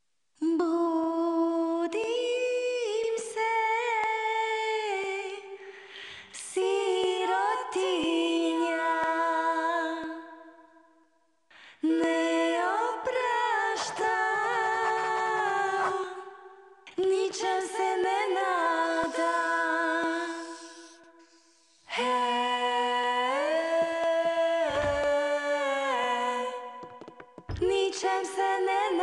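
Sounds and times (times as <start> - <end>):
a cappella group singing: 0.4 - 10.8, 11.7 - 29.0.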